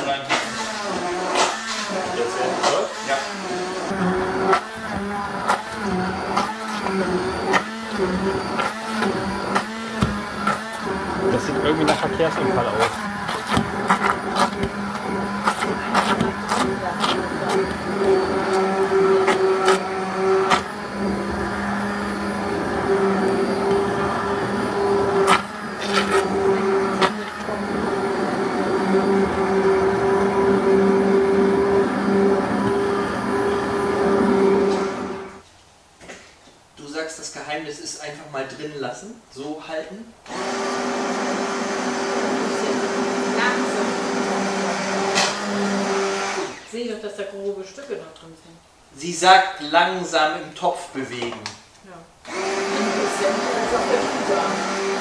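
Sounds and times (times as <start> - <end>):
stick blender motor hum: 0.3 - 35.4, 40.3 - 46.8, 52.2 - 55.0.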